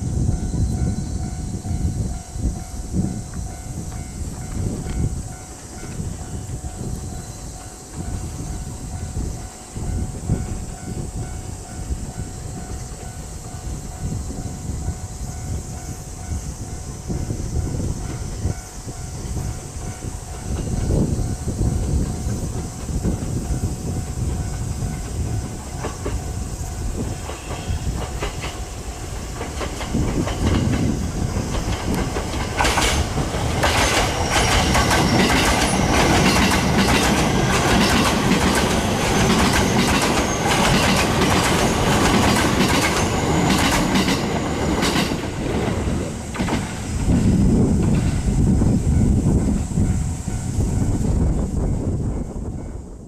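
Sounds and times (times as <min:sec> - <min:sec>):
train wheels clacking on rails: 0:00.0 - 0:53.0.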